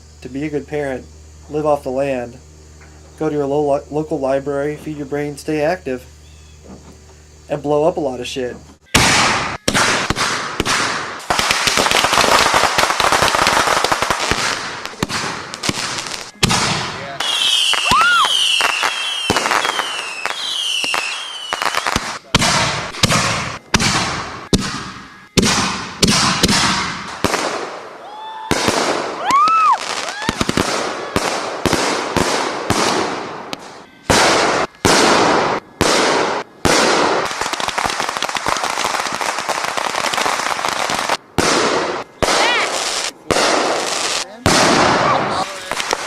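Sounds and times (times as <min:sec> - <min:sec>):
fireworks bangs and crackling: 0:07.5 - 0:46.0
firework whistle: 0:08.8 - 0:46.0.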